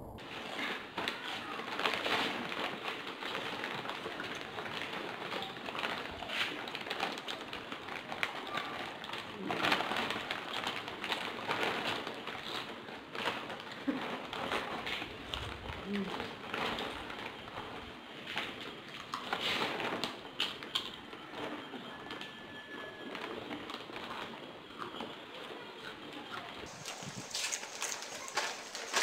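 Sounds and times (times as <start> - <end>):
chips crunching: 0.2 - 29.0
foil snack bags crinkling: 0.2 - 29.0.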